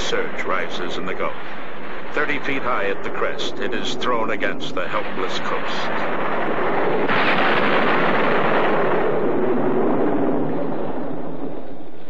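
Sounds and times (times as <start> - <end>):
hurricane storm roar: 0.0 - 12.0.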